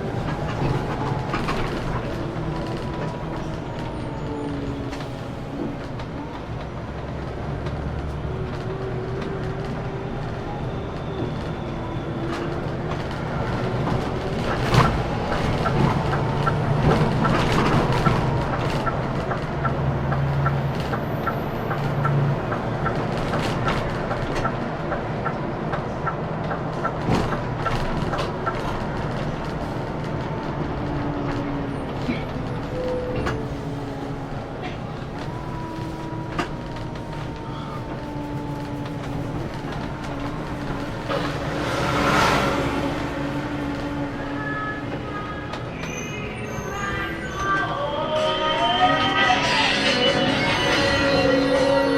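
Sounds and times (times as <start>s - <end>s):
coach engine hum: 0.0s - 51.9s
road rumble: 0.0s - 51.9s.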